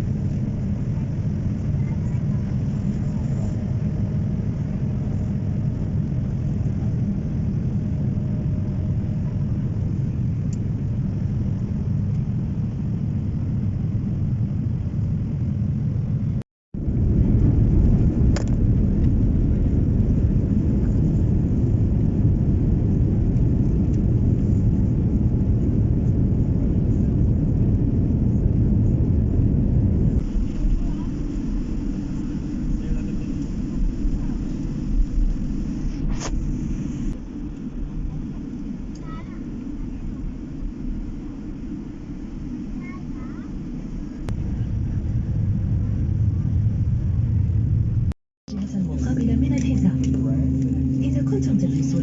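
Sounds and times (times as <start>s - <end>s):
airliner cabin rumble: 0.0s - 52.0s.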